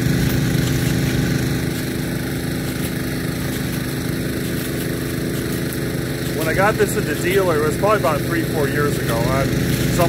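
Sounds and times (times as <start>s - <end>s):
small pump engine running: 0.0s - 10.0s
sprinkler water jet hissing: 0.0s - 10.0s.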